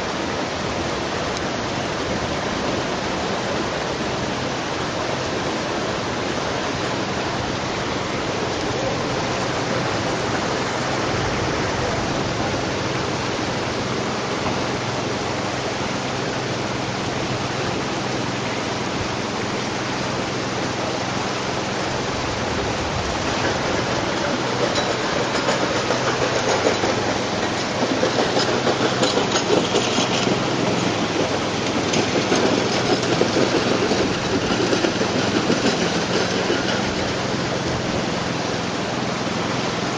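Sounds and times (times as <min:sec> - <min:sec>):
flood water rushing: 0:00.0 - 0:39.9.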